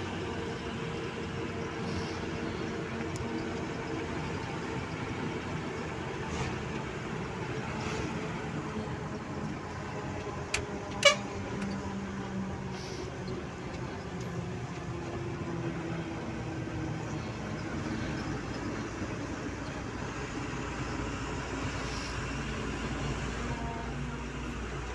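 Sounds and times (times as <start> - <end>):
road noise: 0.0 - 24.9
truck diesel engine: 0.0 - 24.9.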